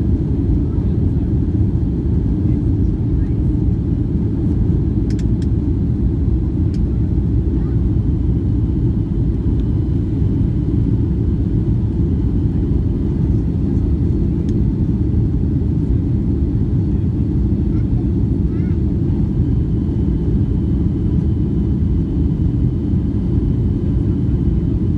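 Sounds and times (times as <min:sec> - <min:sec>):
airliner cabin rumble: 0:00.0 - 0:24.9.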